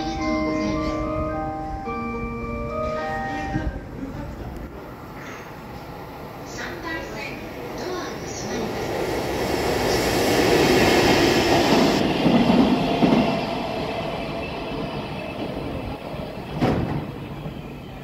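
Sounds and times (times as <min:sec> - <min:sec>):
train passing fast: 0:00.0 - 0:18.0.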